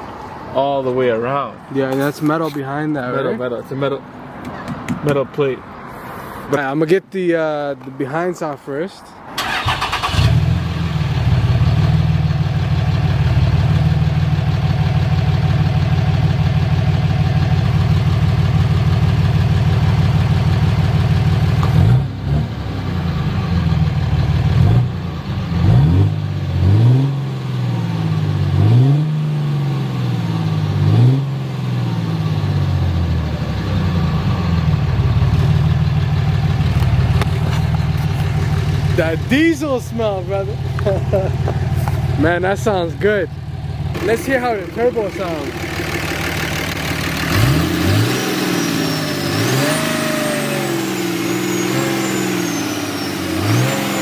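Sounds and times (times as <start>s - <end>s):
diesel truck engine revving: 9.4s - 54.0s.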